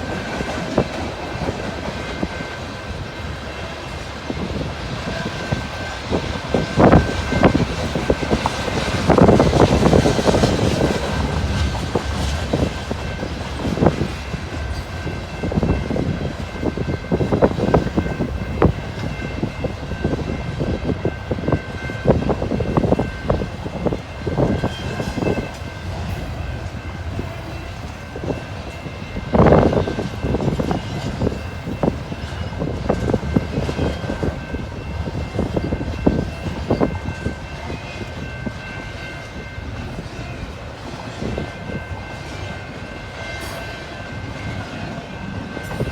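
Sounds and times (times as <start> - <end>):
freight train wheels clacking: 0.0 - 45.9.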